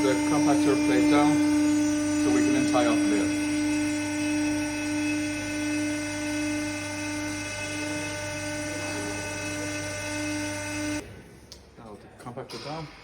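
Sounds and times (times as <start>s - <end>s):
baler motor whining hum: 0.0s - 11.0s.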